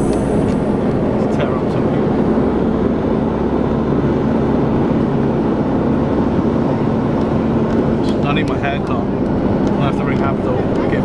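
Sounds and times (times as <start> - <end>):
bus engine humming: 0.0 - 11.0
road noise: 0.0 - 11.0.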